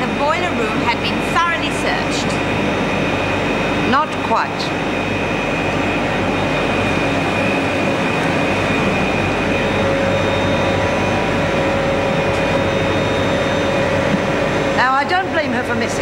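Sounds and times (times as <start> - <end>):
faint high whine: 0.0 - 16.0
machinery drone: 0.0 - 16.0.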